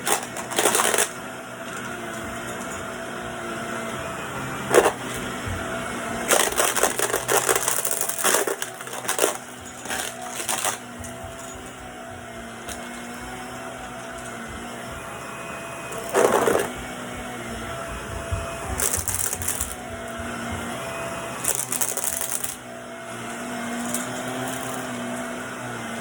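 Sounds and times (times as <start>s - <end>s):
vacuum cleaner motor hum: 0.0s - 26.0s.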